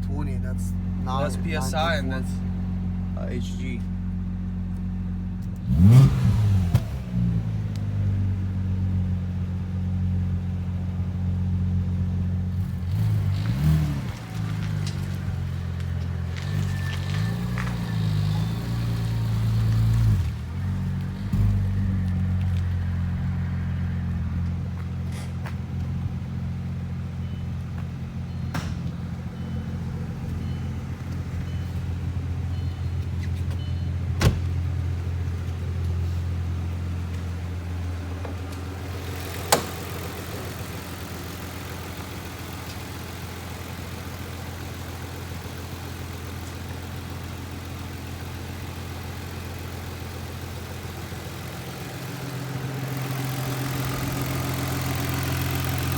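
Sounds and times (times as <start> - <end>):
car engine humming: 0.0 - 55.9.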